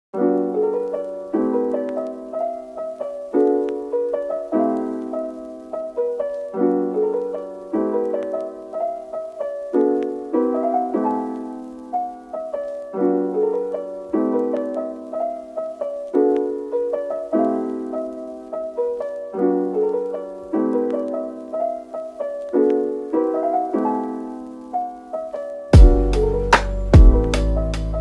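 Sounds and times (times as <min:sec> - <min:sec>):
gentle piano chords: 0:00.2 - 0:28.0.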